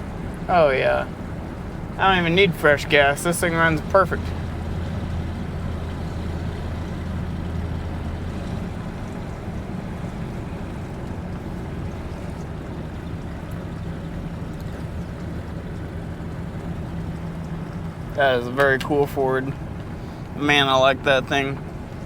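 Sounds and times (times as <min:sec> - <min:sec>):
pickup truck engine running: 0:00.0 - 0:22.0
road and wind noise: 0:00.0 - 0:22.0.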